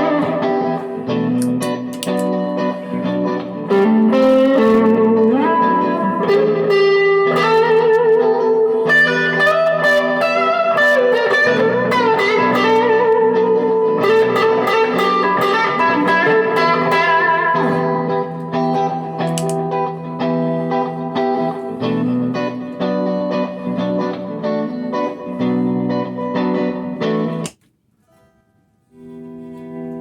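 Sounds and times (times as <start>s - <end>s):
electric guitar chords and notes: 0.0s - 27.6s, 28.9s - 30.0s.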